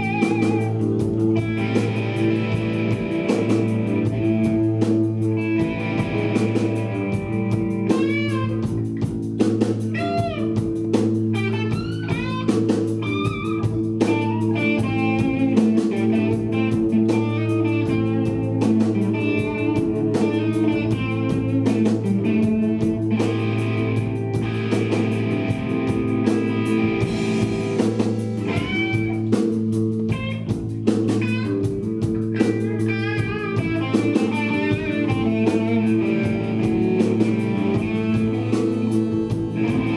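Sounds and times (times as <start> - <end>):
drums: 0.0 - 39.9
electric guitar solo: 0.0 - 39.9.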